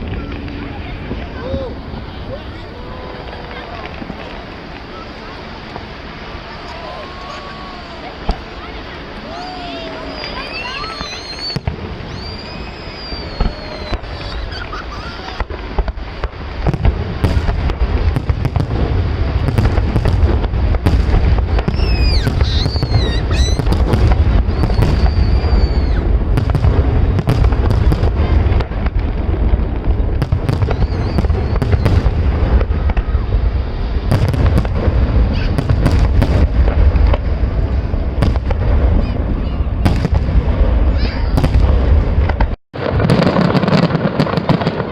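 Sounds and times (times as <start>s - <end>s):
fireworks bangs and crackles: 0.0s - 44.9s
fireworks whistling: 0.0s - 44.9s.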